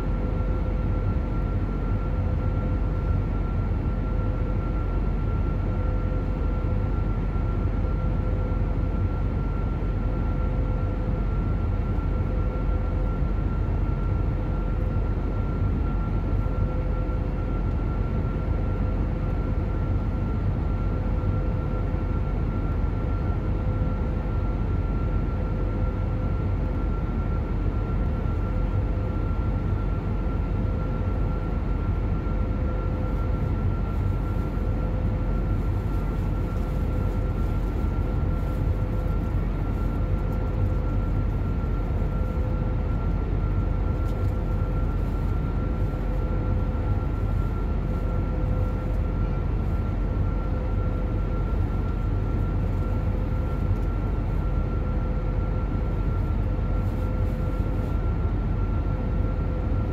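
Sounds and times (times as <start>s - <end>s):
airplane cabin engine drone: 0.0s - 59.9s
faint steady hums: 0.0s - 59.9s.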